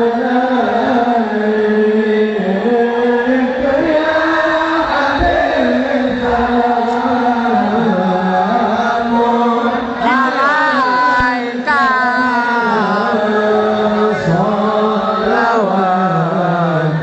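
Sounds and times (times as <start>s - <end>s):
devotional chant singing: 0.0s - 17.0s.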